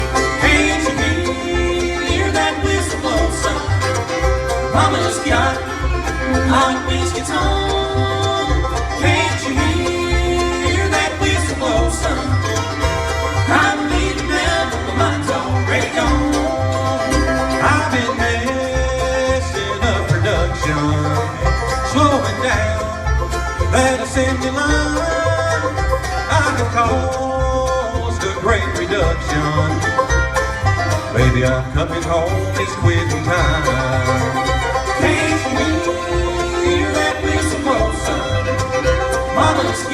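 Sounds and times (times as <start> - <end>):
banjo: 0.0 - 39.9
bass beat: 0.0 - 39.9
bluegrass band playing: 0.0 - 39.9.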